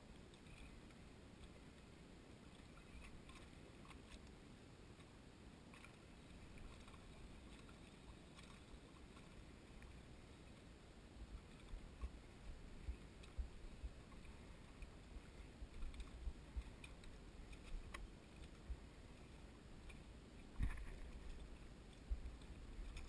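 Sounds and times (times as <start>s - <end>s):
small waves lapping a dock: 0.0s - 23.0s.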